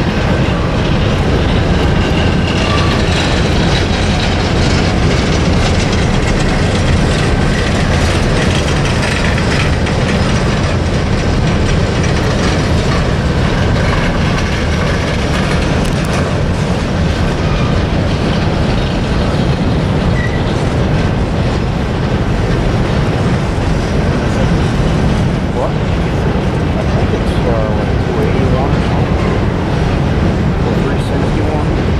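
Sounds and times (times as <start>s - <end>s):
freight cars rumbling on bridge: 0.0s - 31.9s
wheels clattering on rail joints: 0.0s - 31.9s.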